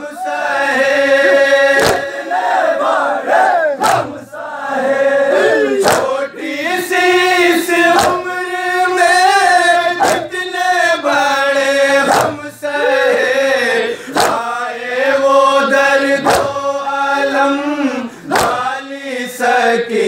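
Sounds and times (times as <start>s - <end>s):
men chanting in unison: 0.0s - 20.0s
crowd slapping chests: 0.2s - 7.1s, 7.7s - 8.6s, 9.4s - 17.3s, 18.2s - 18.8s.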